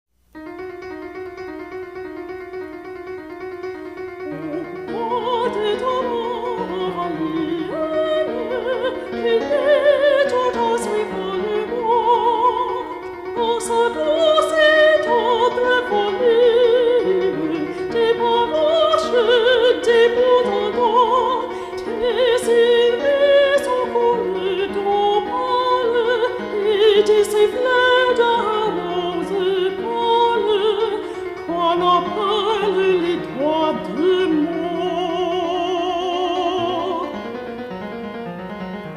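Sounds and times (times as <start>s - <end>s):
classical accompaniment: 0.3s - 38.9s
operatic singing: 4.2s - 37.5s.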